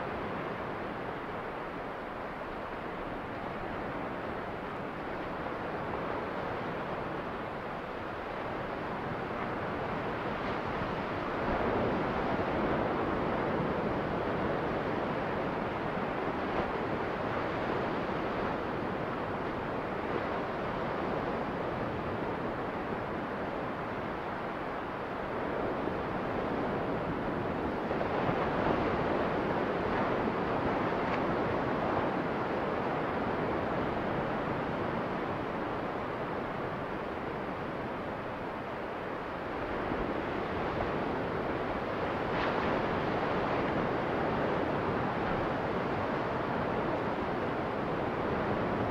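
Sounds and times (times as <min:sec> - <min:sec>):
waves washing onto beach: 0:00.0 - 0:48.9
wind on microphone: 0:00.0 - 0:48.9.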